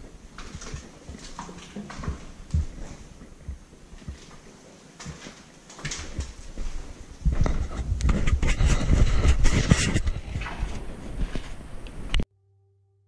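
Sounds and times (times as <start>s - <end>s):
footsteps thumping and scuffing: 0.0s - 11.6s.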